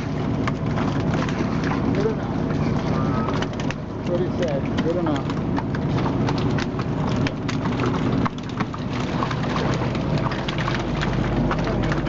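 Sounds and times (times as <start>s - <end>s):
boat engine drone: 0.0s - 12.0s
fish flopping on wooden deck: 0.0s - 12.0s.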